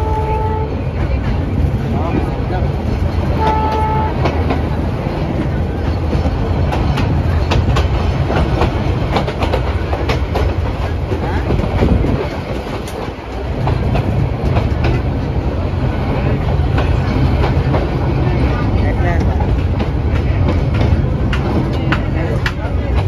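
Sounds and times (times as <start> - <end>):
train rumbling: 0.0 - 23.0
wheels clacking over rail joints: 0.9 - 23.0.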